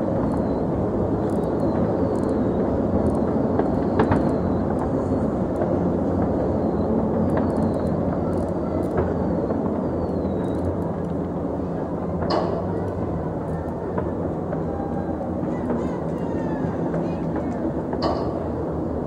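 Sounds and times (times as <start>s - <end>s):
distant fireworks rumble: 0.0s - 19.0s.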